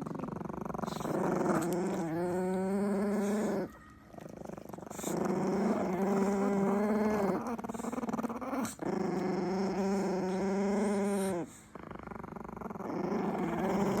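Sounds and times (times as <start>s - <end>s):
small dog growling: 0.0s - 14.0s.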